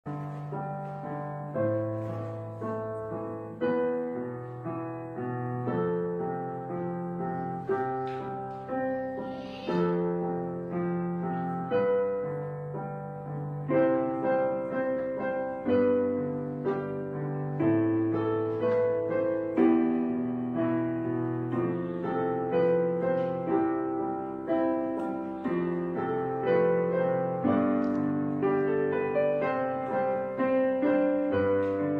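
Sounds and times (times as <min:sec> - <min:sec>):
slow piano chords: 0:00.0 - 0:31.9.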